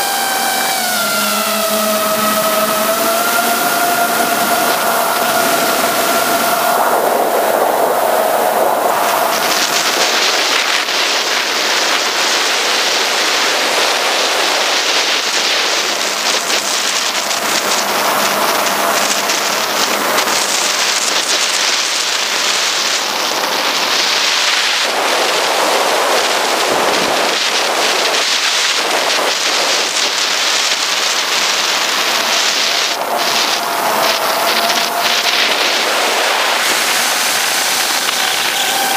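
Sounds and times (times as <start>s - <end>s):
quadcopter propellers crackling hiss: 0.0s - 38.9s.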